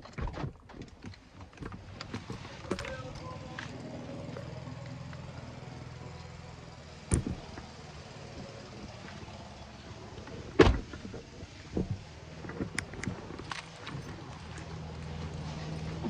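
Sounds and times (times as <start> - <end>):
car engine idling: 1.2 - 16.0
car doors shutting: 1.7 - 15.0.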